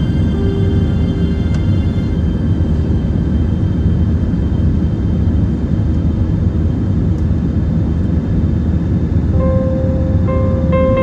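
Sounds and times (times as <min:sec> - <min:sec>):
jet airliner low rumble: 0:00.0 - 0:11.0.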